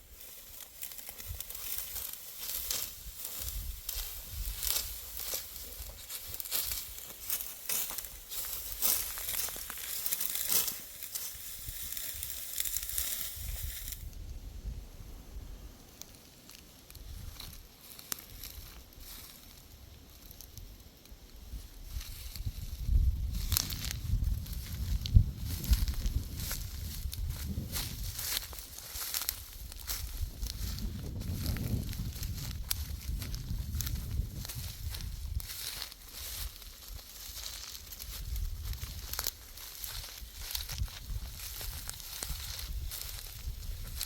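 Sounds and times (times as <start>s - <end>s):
dry wheat stalks crackling: 0.0s - 14.2s, 15.9s - 44.0s.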